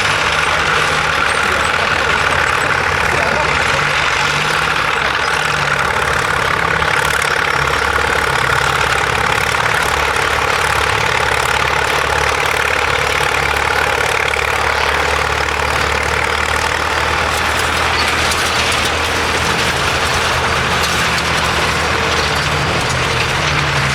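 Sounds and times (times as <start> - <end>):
heavy engine running: 0.0 - 23.9.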